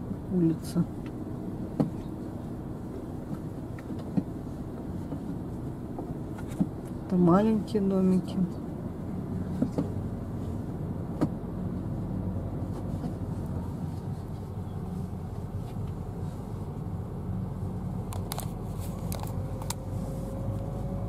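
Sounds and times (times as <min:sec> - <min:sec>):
car engine and tyre hum: 0:00.0 - 0:21.0.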